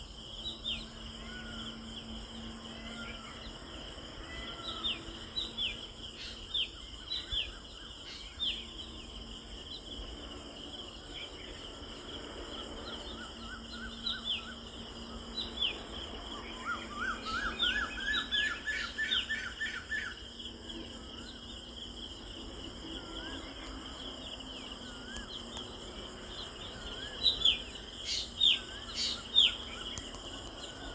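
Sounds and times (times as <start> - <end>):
birds chirping: 0.0 - 30.9
high drone of insects: 0.0 - 30.9.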